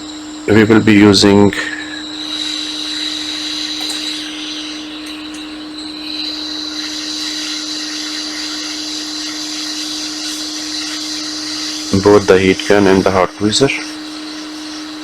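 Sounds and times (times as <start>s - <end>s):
heat gun blowing air: 1.6s - 15.0s.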